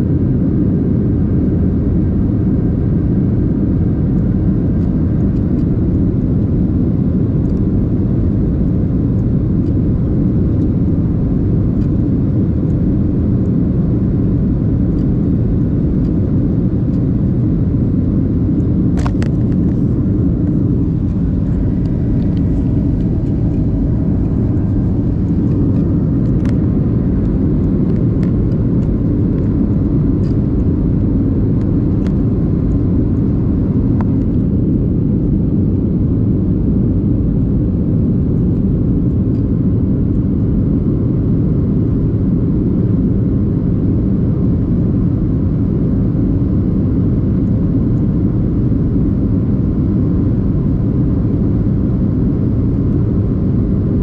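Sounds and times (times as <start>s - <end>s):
jet engine and airflow roar: 0.0s - 54.0s.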